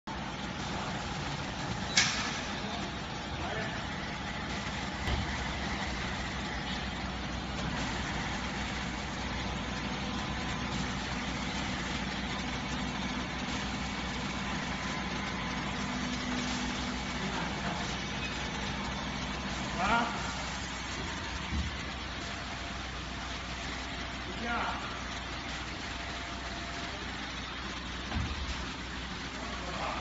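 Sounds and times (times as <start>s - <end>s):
pump motor humming: 0.1s - 30.0s.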